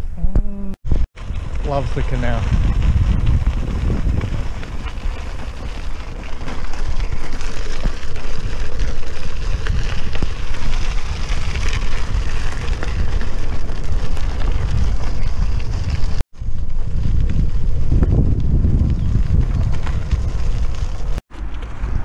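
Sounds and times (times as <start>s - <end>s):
bicycle tyres rolling on gravel: 0.9s - 22.0s
wind buffeting microphone: 0.9s - 22.0s.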